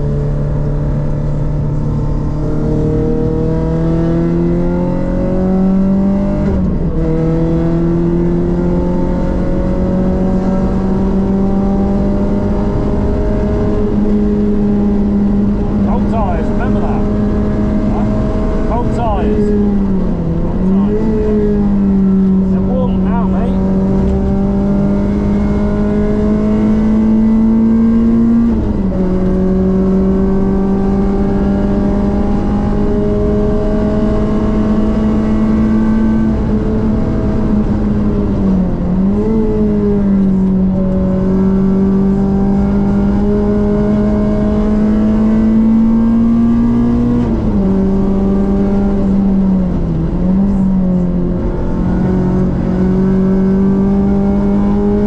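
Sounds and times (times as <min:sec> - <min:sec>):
car engine revving high: 0:00.0 - 0:55.0.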